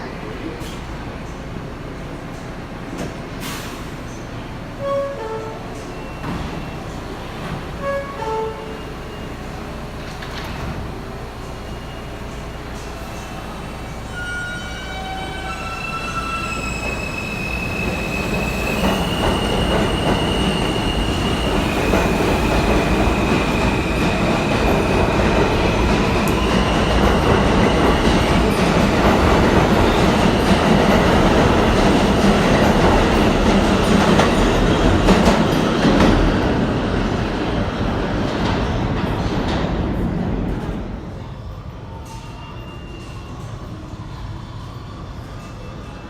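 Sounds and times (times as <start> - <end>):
train rumble: 0.0 - 46.0
train wheels squealing on rails: 3.1 - 39.7, 40.4 - 46.0.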